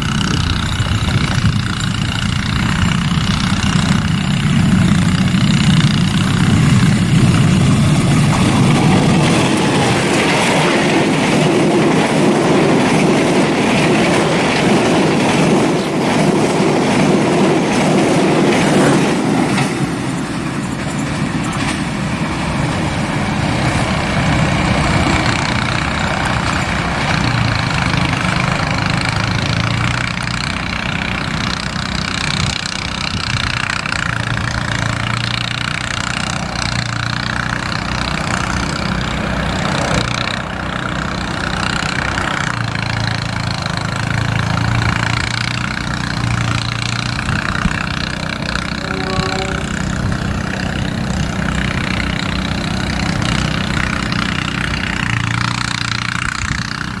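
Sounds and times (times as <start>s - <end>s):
low train rumble hum: 0.0s - 57.0s
train wheels rattling over rails: 0.0s - 57.0s.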